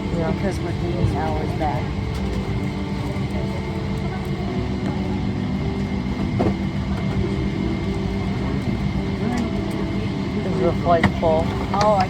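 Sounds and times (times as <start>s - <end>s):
aircraft cabin droning hum: 0.0s - 12.0s
faint cabin chatter: 0.0s - 12.0s.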